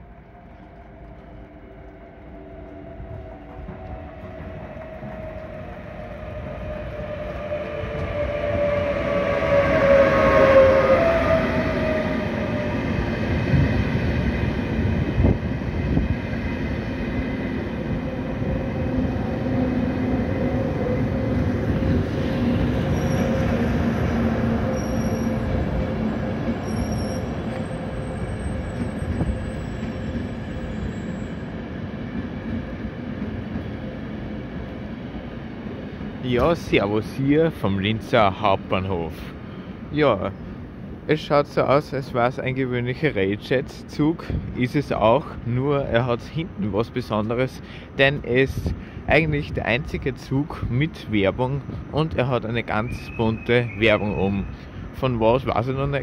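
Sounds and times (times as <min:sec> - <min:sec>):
train coaches rumbling: 0:00.0 - 0:56.0.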